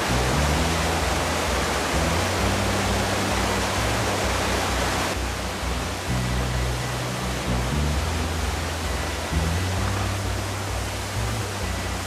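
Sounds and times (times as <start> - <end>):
low sustained music tones: 0.0 - 12.0
water rushing over rocks: 0.0 - 12.0.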